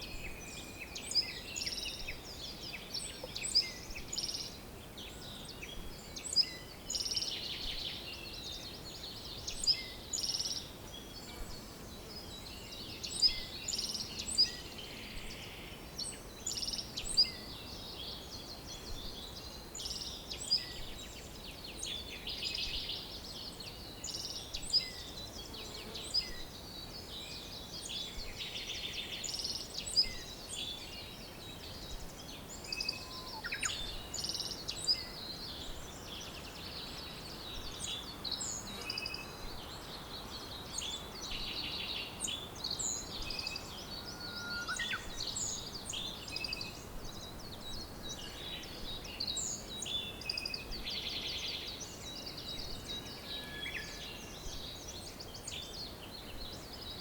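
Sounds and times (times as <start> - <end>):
faint background hiss: 0.0 - 57.0
songbirds chirping and singing: 0.0 - 57.0.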